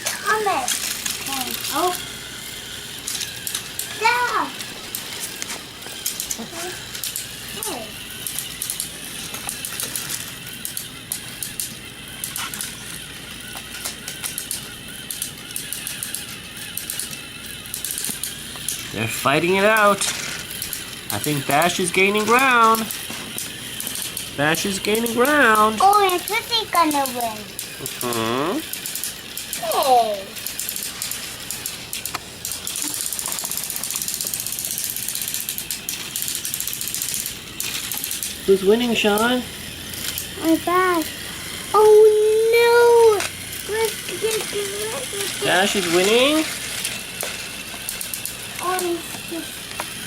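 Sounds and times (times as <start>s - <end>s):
faint motor hum: 0.0s - 50.0s
rapid ratchet-like clicking: 0.0s - 50.0s
toy trains rattling on plastic track: 0.0s - 50.0s.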